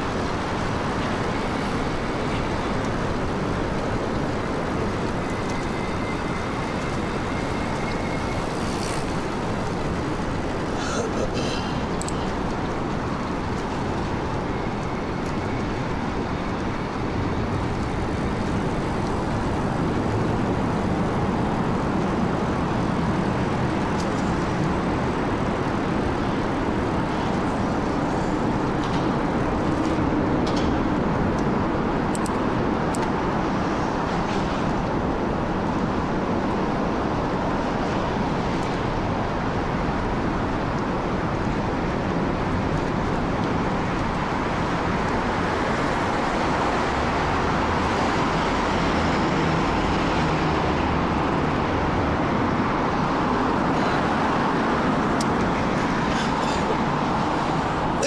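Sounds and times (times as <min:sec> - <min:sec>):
tyre and wind road noise: 0:00.0 - 0:58.0.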